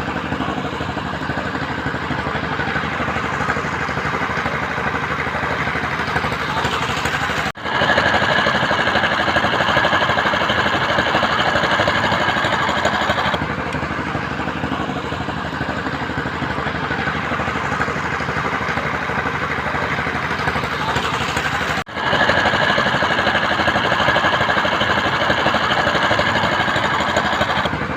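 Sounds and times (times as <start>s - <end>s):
construction machine engine chugging: 0.0s - 27.9s.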